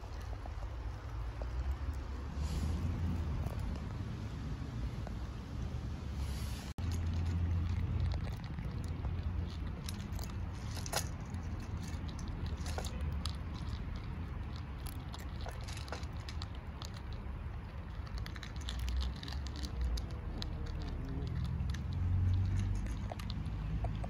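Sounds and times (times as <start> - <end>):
cats crunching dry kibble: 0.0 - 4.4, 6.8 - 24.0
steady low rumble: 0.0 - 24.0.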